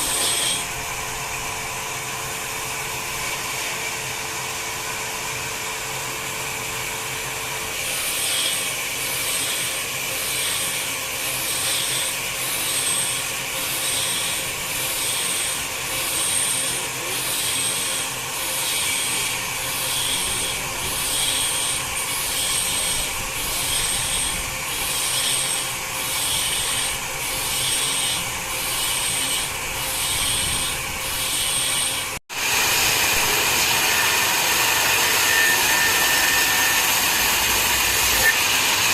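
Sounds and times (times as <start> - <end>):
saw rasping through wood: 0.0 - 1.2, 7.0 - 38.9
cutting machine noise: 0.0 - 38.9.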